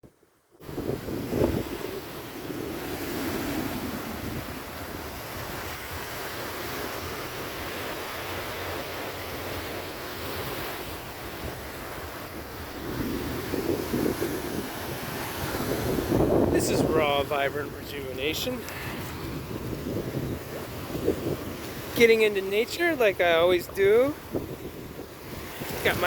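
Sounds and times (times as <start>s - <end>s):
wind on microphone: 0.6s - 8.8s, 9.4s - 22.1s, 23.4s - 26.0s.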